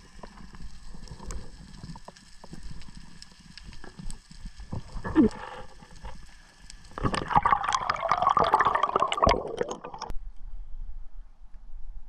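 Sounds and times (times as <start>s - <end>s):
underwater bubbling and splashing: 0.0s - 10.1s.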